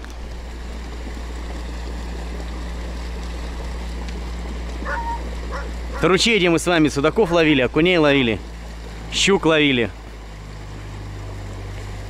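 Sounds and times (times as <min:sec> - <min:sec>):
atv engine running: 0:00.0 - 0:12.0
water washing: 0:00.0 - 0:12.0.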